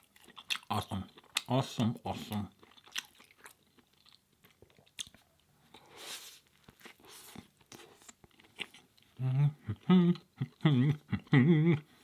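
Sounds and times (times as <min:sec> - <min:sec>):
soft wet chewing: 0:00.0 - 0:11.4.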